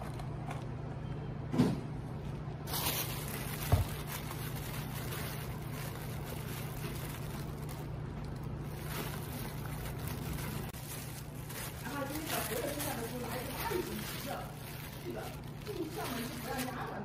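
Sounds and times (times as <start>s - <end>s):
steady low hum: 0.0s - 17.0s
plastic bag crinkling: 2.6s - 17.0s.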